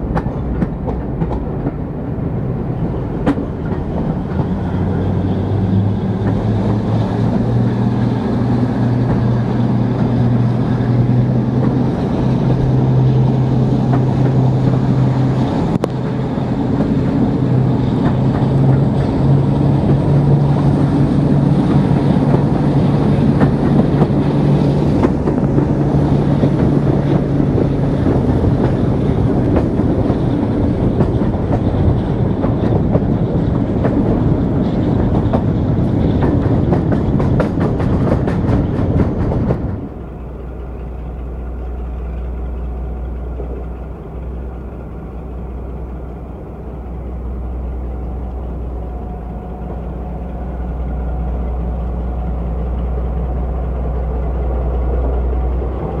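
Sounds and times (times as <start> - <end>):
locomotive diesel engine drone: 0.0 - 56.0
wind: 0.0 - 56.0.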